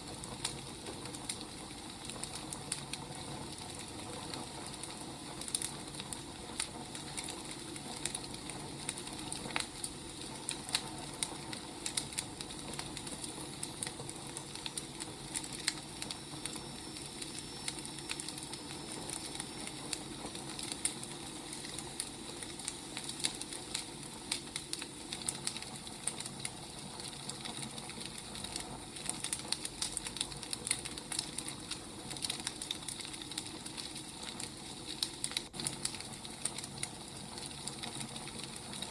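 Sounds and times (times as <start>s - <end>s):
firewood crackling and popping: 0.0s - 38.9s.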